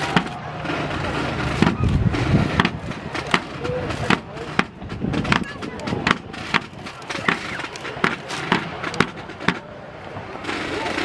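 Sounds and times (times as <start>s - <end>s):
crowd murmur: 0.0s - 11.0s.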